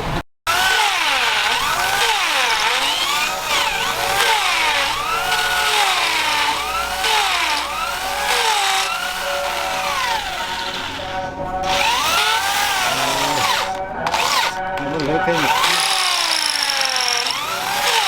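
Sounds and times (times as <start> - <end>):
power tool motor pitch dipping: 0.0 - 18.0.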